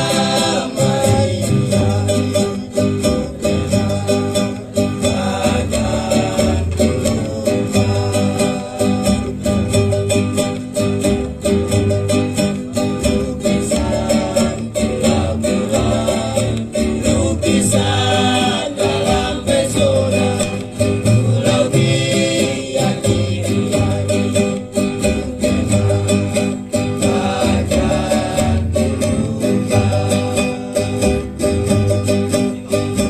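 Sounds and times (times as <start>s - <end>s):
deep bass line: 0.0s - 33.0s
guitar strumming and plucking: 0.0s - 33.0s.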